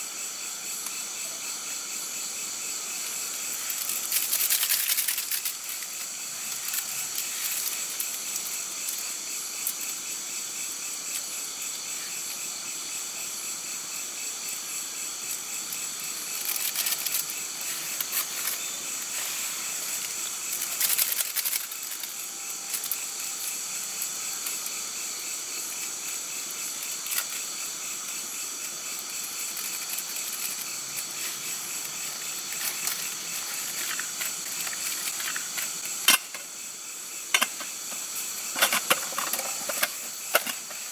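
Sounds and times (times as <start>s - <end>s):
insects trilling: 0.0s - 40.9s
steady high hiss: 0.0s - 40.9s.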